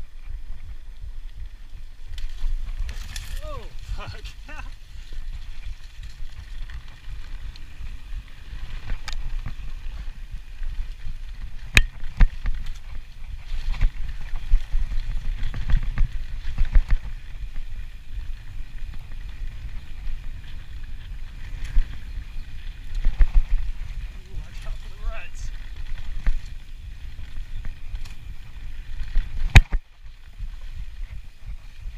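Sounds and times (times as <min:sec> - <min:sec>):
bike rattling over bumps: 0:00.0 - 0:31.9
tyres on dirt: 0:00.0 - 0:31.9
wind on microphone: 0:00.0 - 0:31.9.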